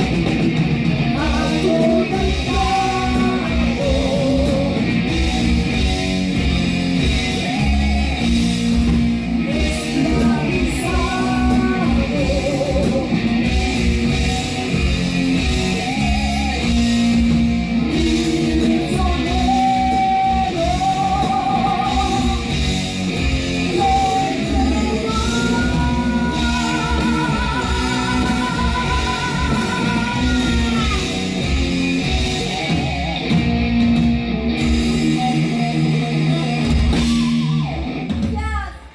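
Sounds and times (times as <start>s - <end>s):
lead guitar melody: 0.0s - 38.3s
heavy metal band playing live: 0.0s - 38.9s.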